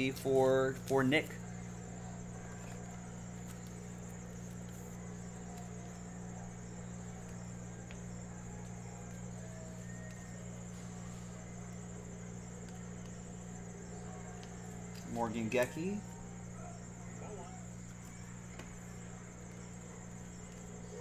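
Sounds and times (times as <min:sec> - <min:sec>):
high-pitched whine: 0:00.0 - 0:21.0
low electrical hum: 0:00.0 - 0:21.0.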